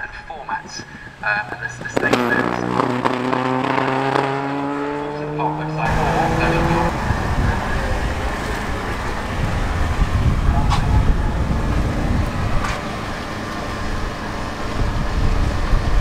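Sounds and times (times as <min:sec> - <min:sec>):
distant vehicle engines rumbling: 0:00.0 - 0:16.0.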